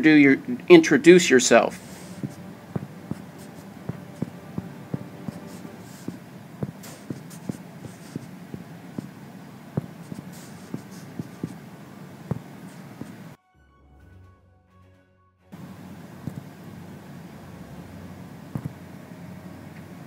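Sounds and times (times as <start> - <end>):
faint room hum: 0.0 - 13.4, 15.5 - 20.0.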